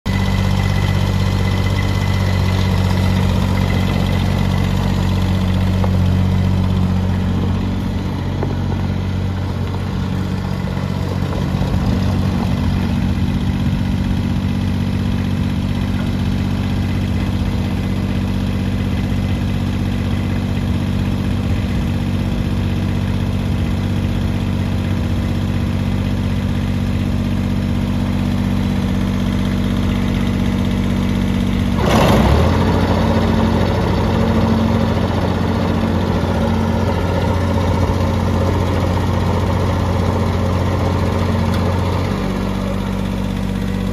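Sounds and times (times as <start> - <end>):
garden tractor engine running: 0.1 - 43.9.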